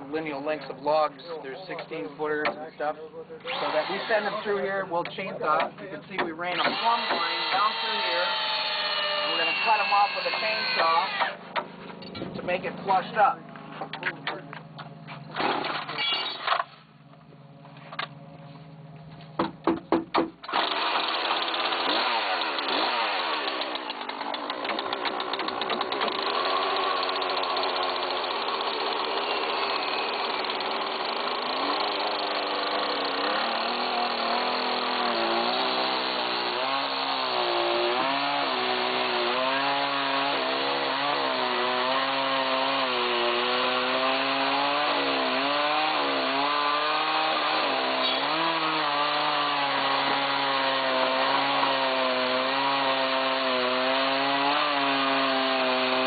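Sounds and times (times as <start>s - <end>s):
chainsaw cutting logs: 0.0s - 16.0s, 19.5s - 56.0s.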